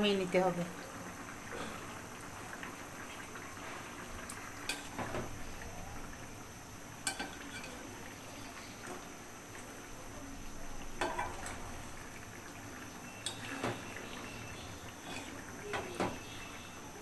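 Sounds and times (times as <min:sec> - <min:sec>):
curry bubbling: 0:00.0 - 0:17.0.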